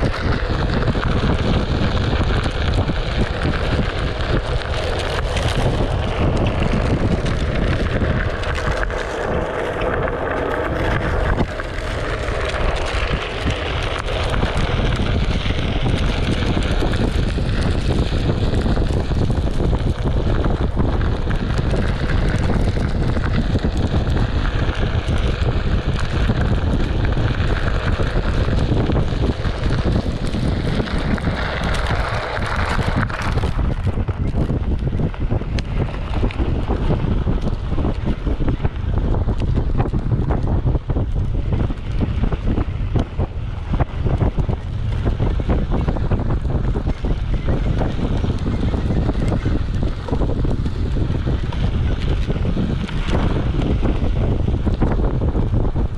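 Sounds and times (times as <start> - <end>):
low rumble: 0.0 - 55.9
wind buffeting microphone: 0.0 - 55.9.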